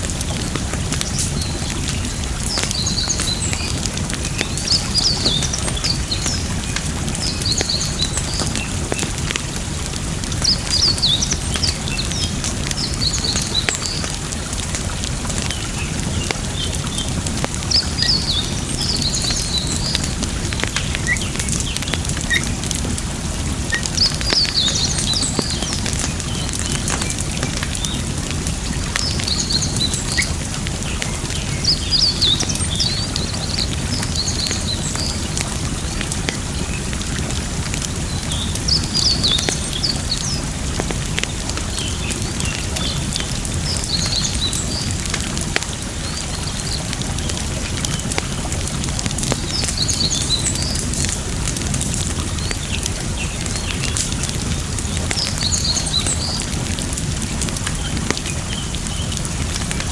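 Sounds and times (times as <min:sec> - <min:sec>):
campfire crackling and popping: 0:00.0 - 0:59.9
running water: 0:00.0 - 0:59.9
small birds chirping: 0:00.2 - 0:45.2, 0:49.1 - 0:56.6.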